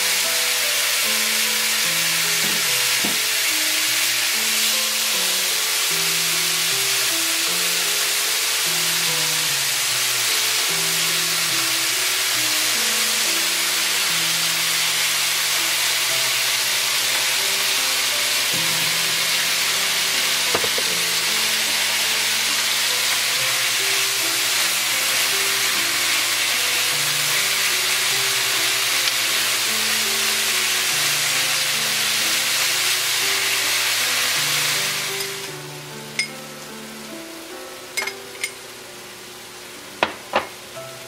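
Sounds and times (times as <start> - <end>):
background music melody: 0.0 - 41.0
food sizzling in a frying pan: 0.0 - 41.0.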